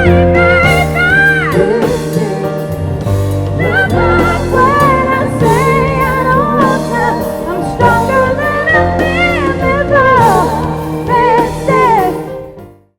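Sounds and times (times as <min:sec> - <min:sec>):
woman singing with vibrato: 0:00.0 - 0:02.8, 0:03.4 - 0:12.5
band accompaniment: 0:00.0 - 0:12.9.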